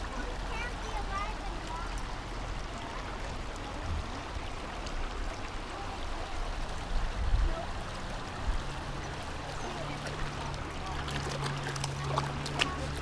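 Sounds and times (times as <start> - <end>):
water rushing over stones: 0.0 - 13.0.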